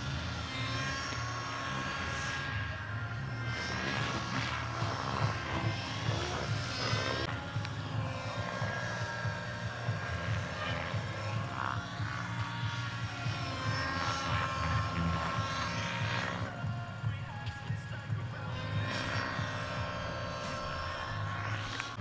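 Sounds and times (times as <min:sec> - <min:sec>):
helicopter rotor beat: 0:00.0 - 0:22.0
model turbine whine: 0:00.0 - 0:22.0.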